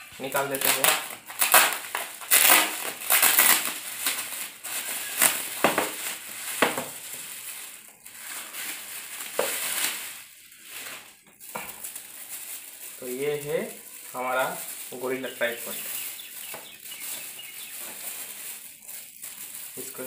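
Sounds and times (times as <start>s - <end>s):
bubble wrap rustling and crinkling: 0.0s - 20.0s.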